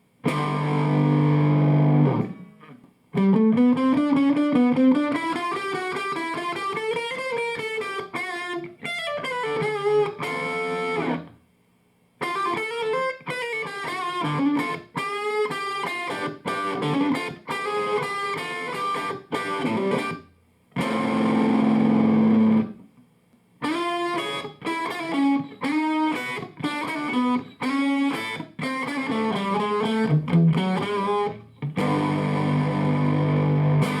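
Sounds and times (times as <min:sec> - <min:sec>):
electric guitar lead phrases: 0:00.2 - 0:11.4, 0:12.2 - 0:22.9, 0:23.6 - 0:34.0
ringing guitar chords: 0:00.2 - 0:11.4, 0:12.3 - 0:22.8, 0:23.6 - 0:34.0.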